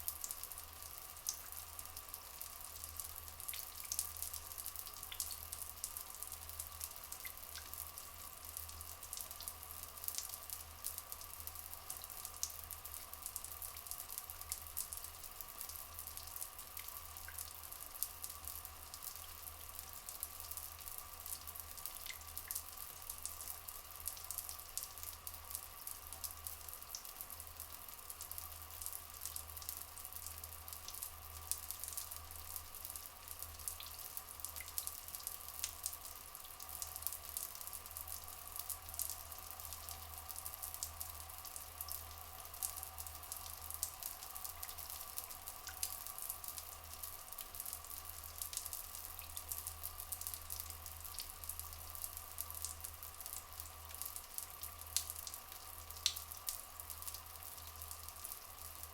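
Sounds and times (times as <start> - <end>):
water dripping and splashing: 0.0 - 58.9
water trickling: 0.0 - 58.9.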